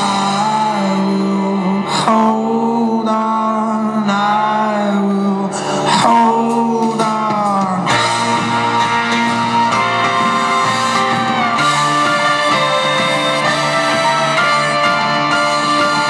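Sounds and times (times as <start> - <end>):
rock band playing: 0.0 - 3.1, 5.1 - 16.0.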